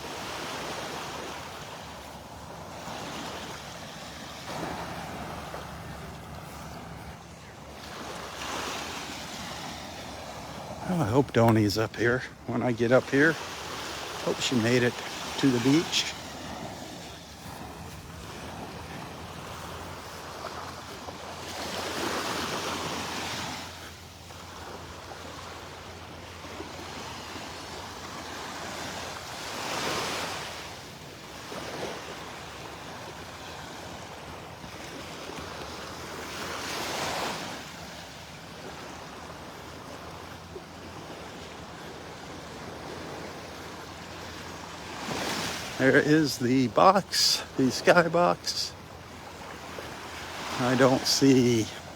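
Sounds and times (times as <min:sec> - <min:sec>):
waves breaking on sandy beach: 0:00.0 - 0:51.9.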